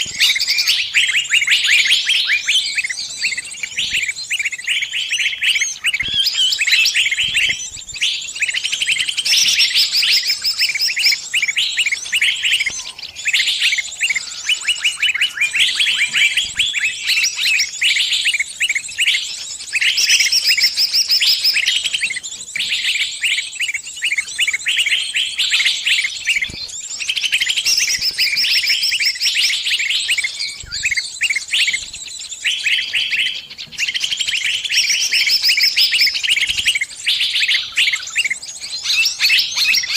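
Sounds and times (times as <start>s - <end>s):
small bird distress chirping: 0.0s - 39.9s.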